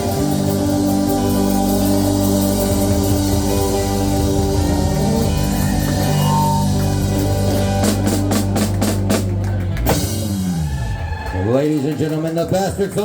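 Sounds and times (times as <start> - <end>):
country rock band playing: 0.0 - 11.6.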